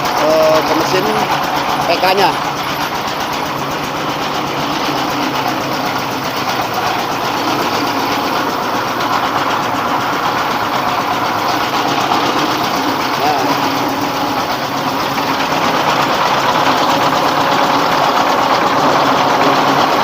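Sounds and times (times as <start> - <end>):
diesel engine mechanical drone: 0.0 - 20.0.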